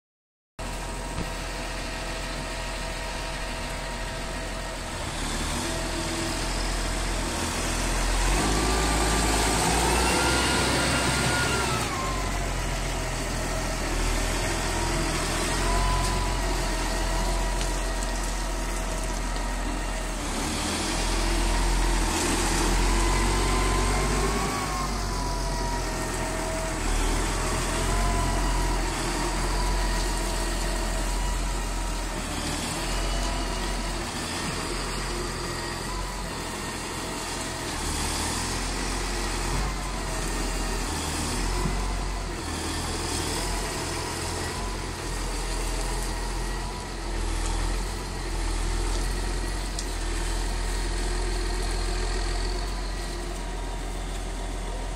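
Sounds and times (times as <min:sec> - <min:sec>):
tractor diesel engine revving: 0:00.6 - 0:54.9.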